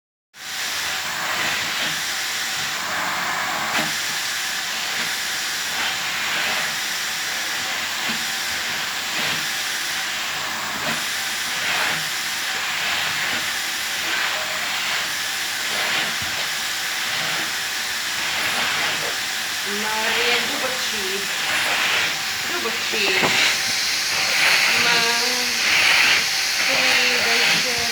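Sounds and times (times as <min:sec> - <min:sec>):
vacuum cleaner suction hiss: 0:00.4 - 0:27.9.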